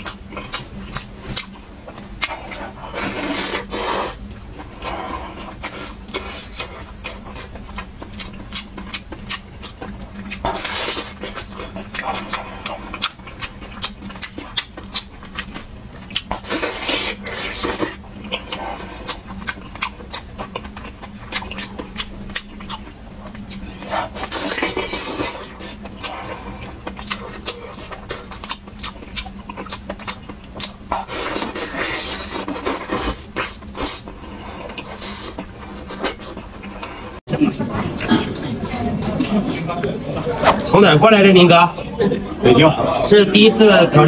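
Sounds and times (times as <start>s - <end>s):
person biting and chewing meat: 0.0s - 38.6s
faint steady hum: 0.0s - 44.0s.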